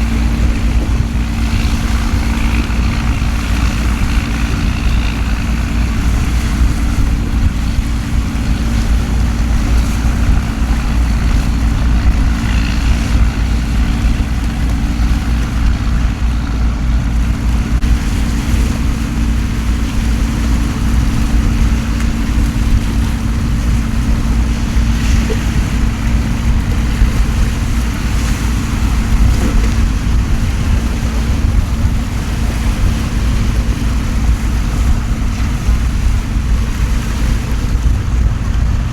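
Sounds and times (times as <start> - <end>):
deep rumble of wind and water: 0.0 - 38.9.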